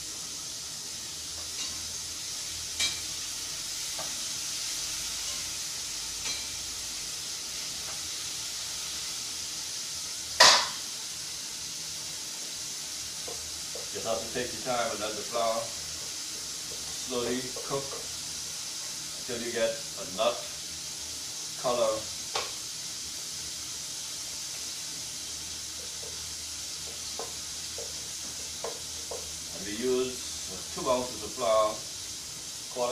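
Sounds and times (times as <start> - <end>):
chicken frying in hot oil: 0.0 - 32.9
loud hiss of oil: 0.0 - 32.9.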